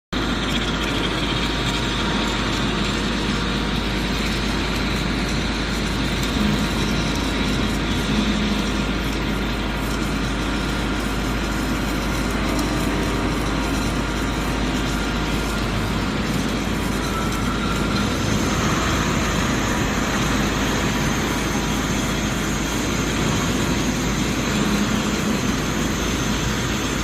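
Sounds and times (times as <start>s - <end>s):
machine running with low hum: 0.1s - 27.0s.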